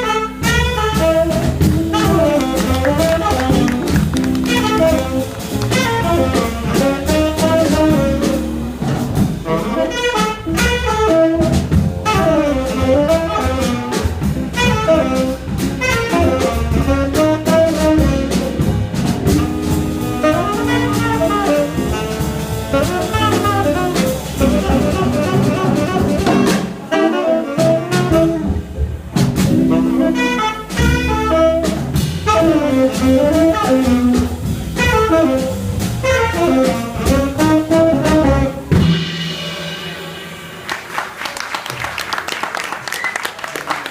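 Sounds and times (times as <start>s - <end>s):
saxophone melody: 0.0s - 8.6s, 9.4s - 28.8s, 29.5s - 38.8s
low bass notes: 0.0s - 40.6s
drum kit: 0.0s - 43.9s.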